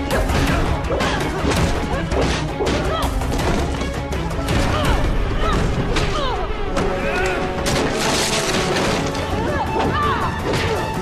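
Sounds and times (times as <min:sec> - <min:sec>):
dramatic music: 0:00.0 - 0:11.0
punches and strikes: 0:00.0 - 0:11.0.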